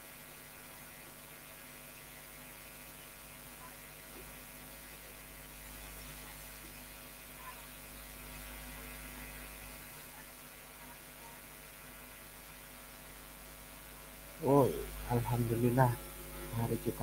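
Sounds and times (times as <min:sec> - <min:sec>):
electrical hum: 0:00.0 - 0:17.0
low hiss: 0:00.0 - 0:17.0.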